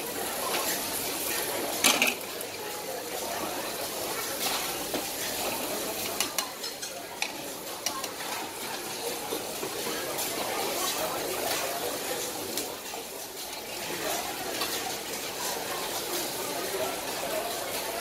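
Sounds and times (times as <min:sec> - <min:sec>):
food sizzling on griddle: 0:00.0 - 0:18.0
metal utensils clinking and scraping: 0:00.4 - 0:02.7, 0:04.0 - 0:16.4.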